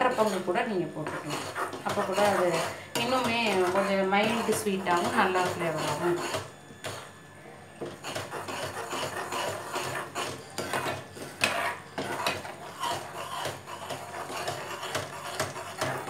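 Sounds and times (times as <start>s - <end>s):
spoon scraping metal pan: 0.0s - 7.1s, 7.8s - 16.0s.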